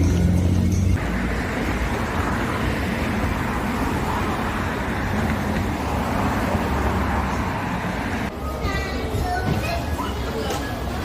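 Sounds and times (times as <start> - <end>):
road traffic rushing: 0.0 - 11.0
vehicle engine rumble: 0.0 - 11.0.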